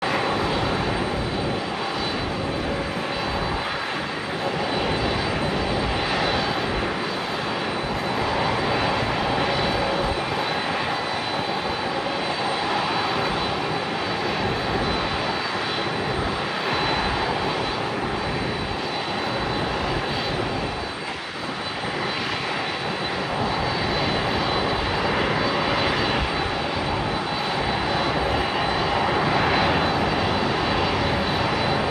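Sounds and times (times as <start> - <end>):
jet engines idling: 0.0 - 31.9.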